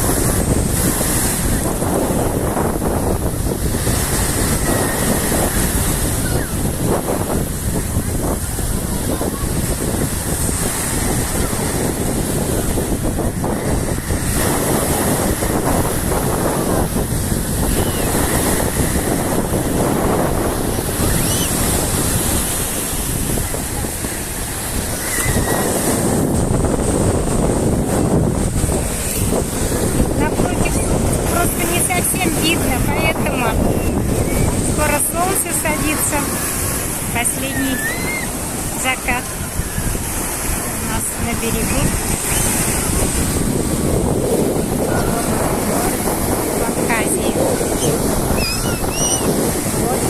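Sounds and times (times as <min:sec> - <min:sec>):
surf breaking on shore: 0:00.0 - 0:50.0
wind buffeting microphone: 0:00.0 - 0:50.0.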